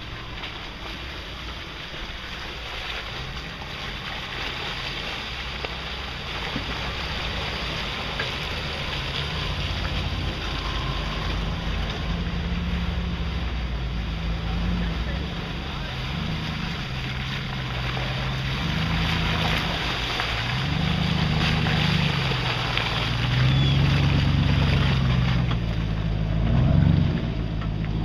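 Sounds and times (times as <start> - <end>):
off-road truck engines: 0.0 - 28.0
wind and tyre hiss: 0.0 - 28.0.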